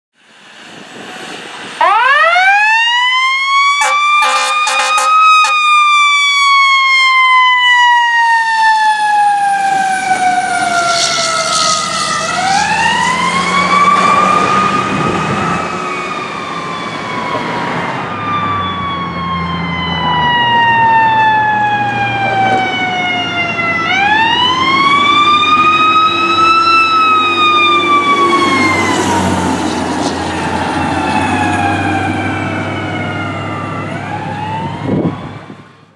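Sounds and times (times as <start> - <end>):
fire truck siren winding: 1.8 - 35.6
truck engines running: 3.8 - 7.0, 9.0 - 35.9.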